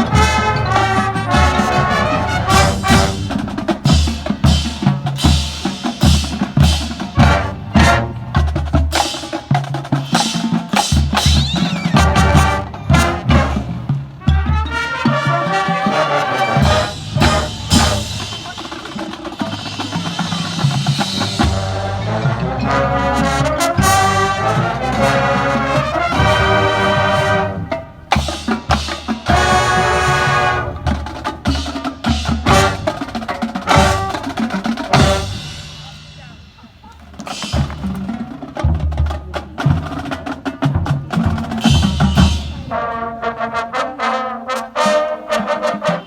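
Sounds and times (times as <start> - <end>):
marching band playing: 0.0 - 46.0.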